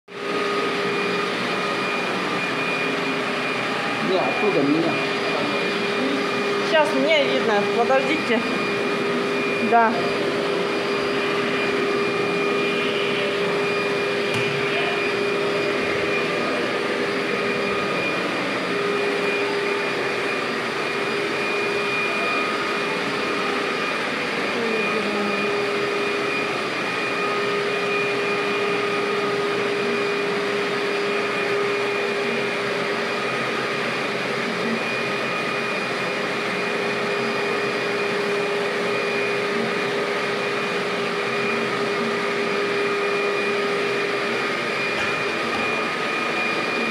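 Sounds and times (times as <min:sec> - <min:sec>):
vacuum cleaner running: 0:00.1 - 0:46.9.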